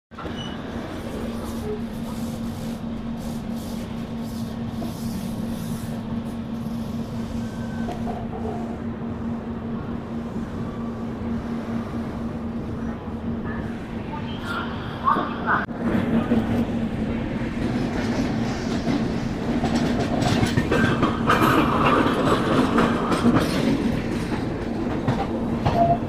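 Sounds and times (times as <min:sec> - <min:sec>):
constant train hum: 0:00.1 - 0:26.0
train wheels rumbling on track: 0:00.1 - 0:26.0.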